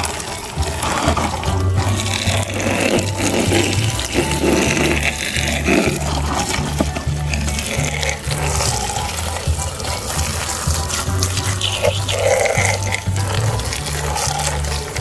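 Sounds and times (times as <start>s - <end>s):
background music with bass line: 0.0s - 15.0s
running water: 0.0s - 15.0s.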